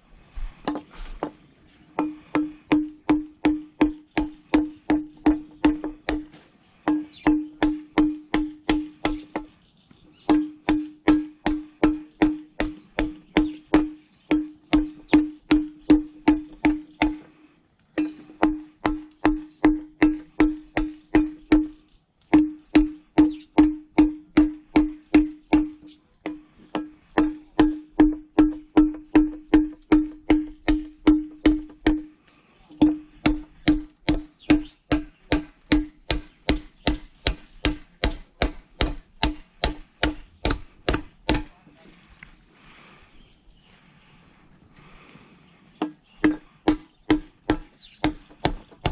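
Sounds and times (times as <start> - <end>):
machete chopping bamboo: 2.0 - 9.5, 10.3 - 17.3, 17.9 - 32.1, 32.7 - 41.6, 45.8 - 48.9.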